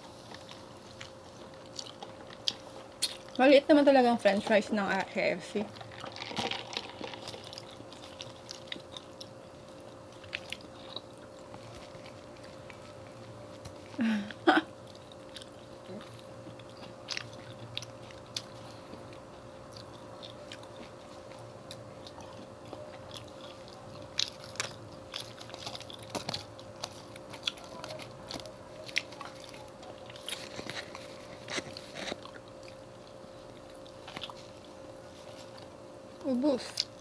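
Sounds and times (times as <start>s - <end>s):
chewing and crunching food: 0.0s - 37.0s
faint steady hum: 0.0s - 37.0s.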